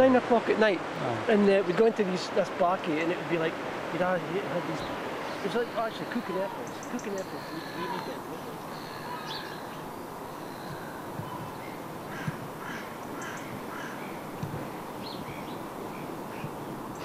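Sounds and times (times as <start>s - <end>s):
birds calling: 0.0s - 17.0s
steady background hiss: 0.0s - 17.0s.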